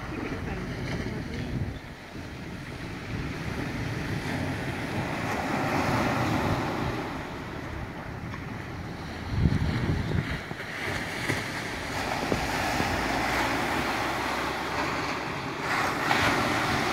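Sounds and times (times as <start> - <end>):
small waves breaking: 0.0 - 16.9
wind buffeting microphone: 0.0 - 16.9.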